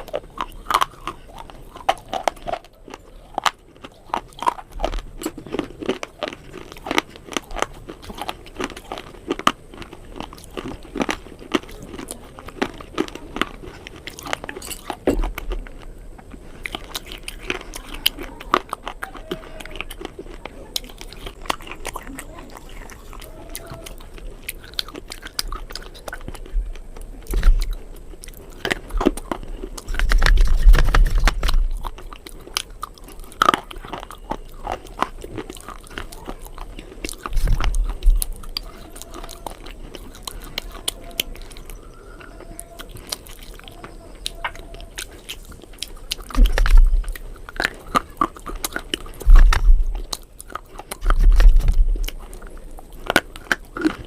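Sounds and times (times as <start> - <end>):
crackly chewing: 0.0 - 54.0
loud crunching bites: 0.0 - 54.0.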